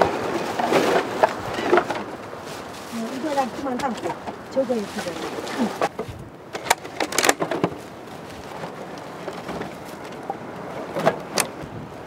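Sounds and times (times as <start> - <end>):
rubbish clattering and rustling: 0.0 - 11.8.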